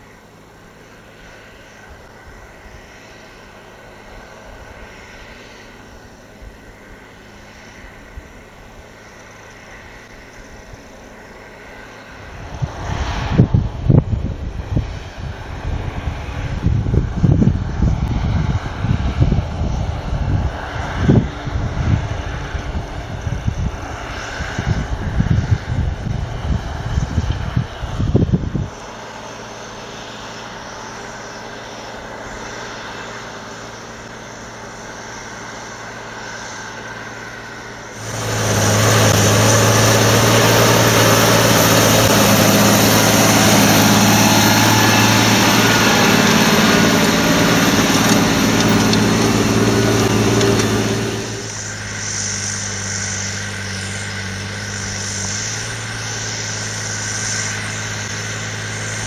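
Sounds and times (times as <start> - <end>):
tractor diesel engine droning: 0.0 - 59.0.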